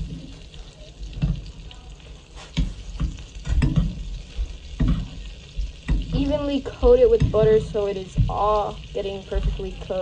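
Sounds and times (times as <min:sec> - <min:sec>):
fish sizzling in butter: 0:00.0 - 0:10.0.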